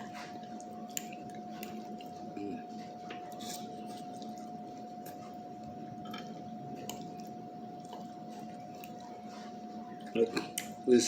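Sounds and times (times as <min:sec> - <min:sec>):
chewing food: 0:00.0 - 0:10.8
faint steady hum: 0:00.0 - 0:11.0.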